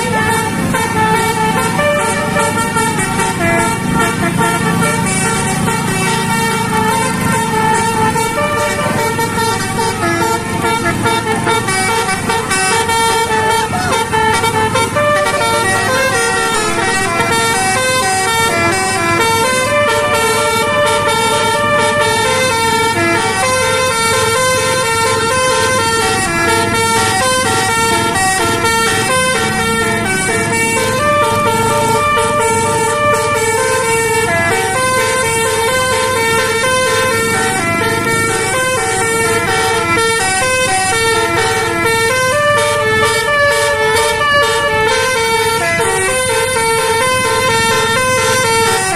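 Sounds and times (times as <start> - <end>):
multi-tone bus horn tune: 0.0 - 48.9.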